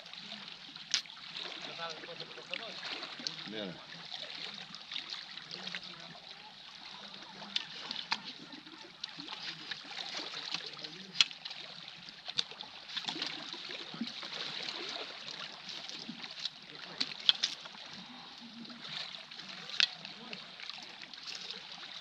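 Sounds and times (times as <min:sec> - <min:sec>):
waves lapping against rocks: 0:00.0 - 0:22.0.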